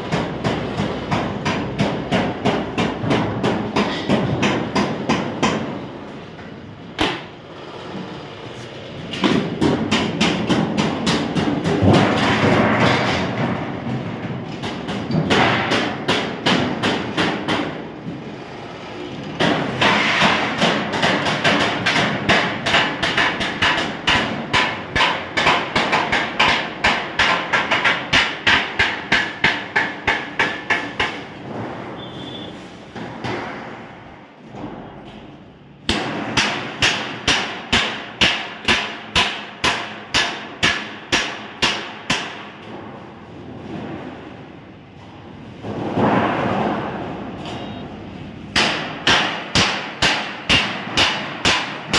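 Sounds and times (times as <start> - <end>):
hammering on sheet metal: 0.0 - 8.2, 9.0 - 18.5, 19.2 - 51.9.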